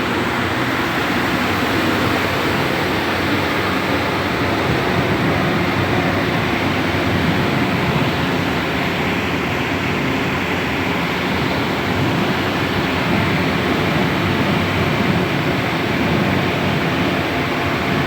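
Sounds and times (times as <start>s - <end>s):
ship machinery drone: 0.0s - 18.0s
wind noise: 0.0s - 18.0s.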